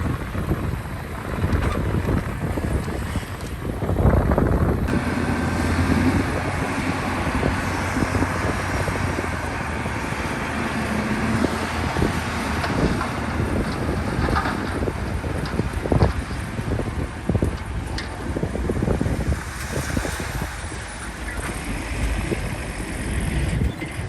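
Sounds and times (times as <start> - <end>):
diesel engine running: 0.0 - 24.0
wind buffeting microphone: 0.0 - 24.0.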